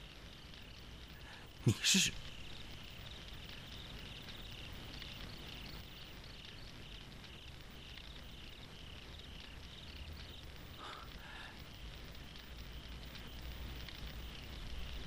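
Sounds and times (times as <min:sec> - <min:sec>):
crickets chirping: 0:00.0 - 0:15.0
low night ambience rumble: 0:00.0 - 0:15.0.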